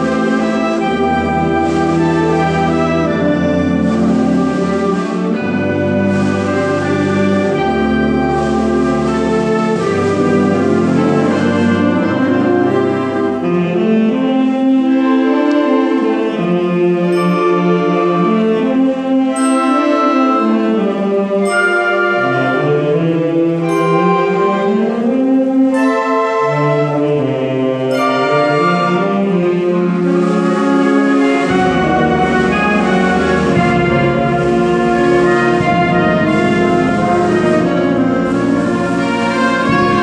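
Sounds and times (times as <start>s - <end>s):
concert band playing: 0.0s - 27.3s, 27.9s - 40.0s.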